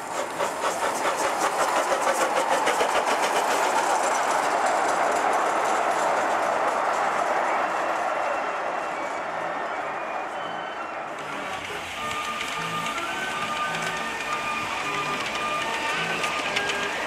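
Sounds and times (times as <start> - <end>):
steam locomotive chuffing: 0.0 - 17.0
train rushing hiss: 0.0 - 17.0.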